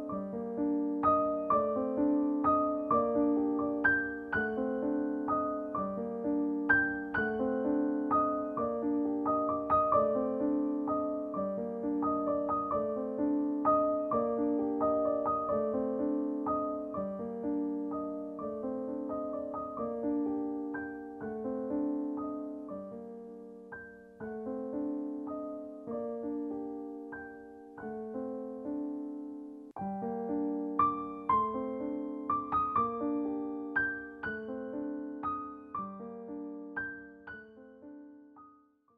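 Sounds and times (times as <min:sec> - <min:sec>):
gentle solo piano melody: 0:00.0 - 0:38.9.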